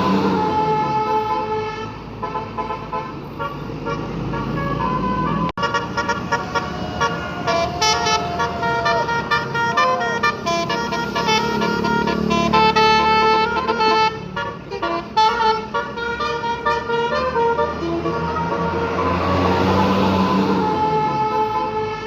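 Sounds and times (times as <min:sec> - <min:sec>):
multi-tone bus horn melody: 0:00.0 - 0:22.0.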